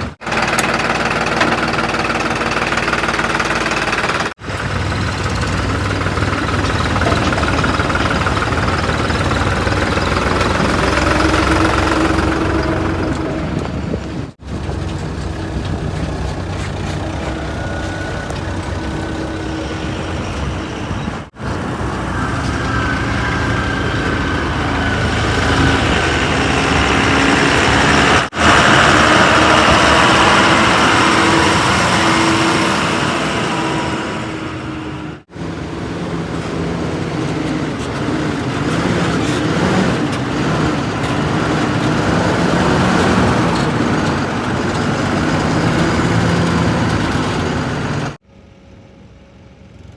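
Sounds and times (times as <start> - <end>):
heavy diesel engines running: 0.0 - 48.2.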